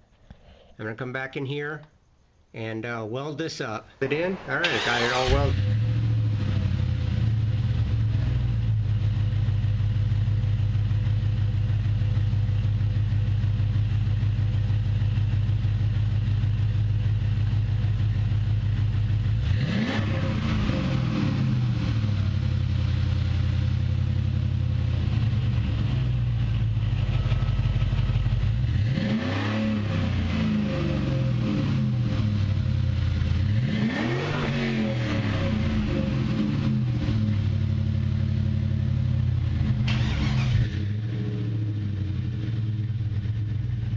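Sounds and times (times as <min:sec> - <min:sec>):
car engine idling and revving: 0:04.4 - 0:43.9.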